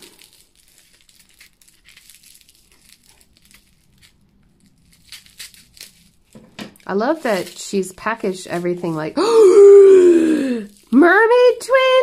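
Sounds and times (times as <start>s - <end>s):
plastic wrapping crinkling: 0.0s - 9.2s, 10.2s - 12.0s.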